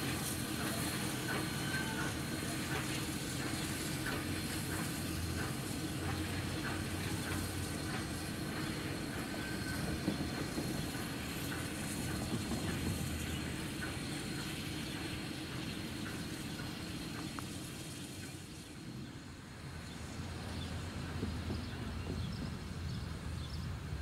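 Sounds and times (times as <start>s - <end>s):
steam hiss: 0.0s - 23.2s
steam locomotive rumble: 0.0s - 24.0s.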